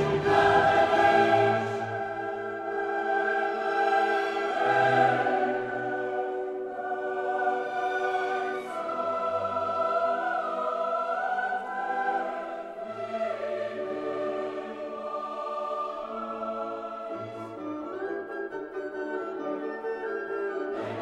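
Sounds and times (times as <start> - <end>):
choir singing long held notes: 0.0 - 19.4, 20.6 - 21.0.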